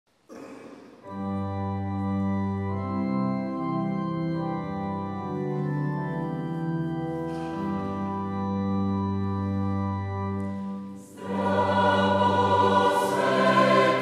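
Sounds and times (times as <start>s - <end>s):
organ playing slow chords: 1.0s - 14.0s.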